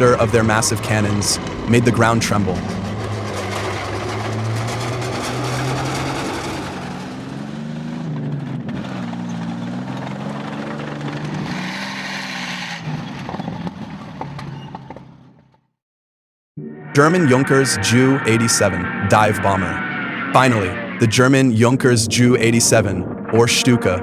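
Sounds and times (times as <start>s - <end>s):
tank engine revving: 0.0s - 15.5s, 17.0s - 23.8s.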